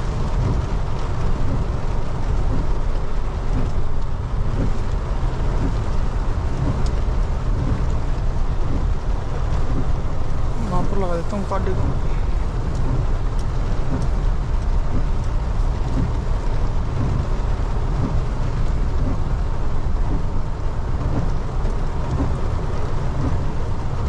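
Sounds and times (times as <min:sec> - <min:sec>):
engine running low rumble: 0:00.0 - 0:24.0
heavy rain falling on a vehicle: 0:00.0 - 0:24.0.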